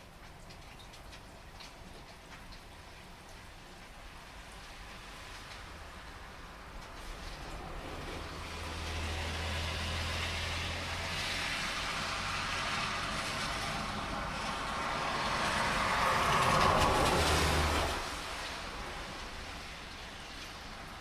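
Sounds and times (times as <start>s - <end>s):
heavy rain: 0.0s - 21.0s
car tyres hissing on wet road: 4.1s - 21.0s.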